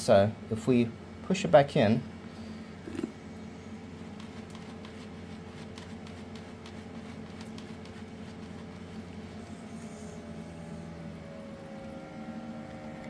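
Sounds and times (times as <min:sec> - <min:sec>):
small air pump humming: 0:00.0 - 0:13.0.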